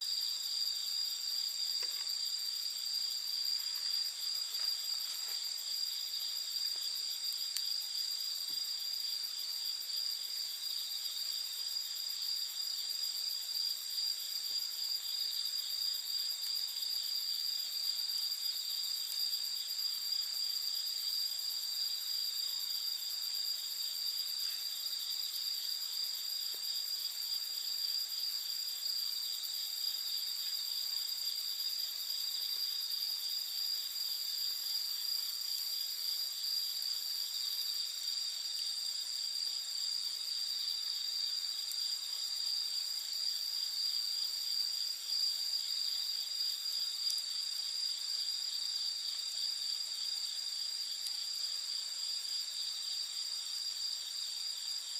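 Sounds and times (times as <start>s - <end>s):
night insects chirping: 0.0s - 54.9s
campfire crackles: 0.1s - 52.3s.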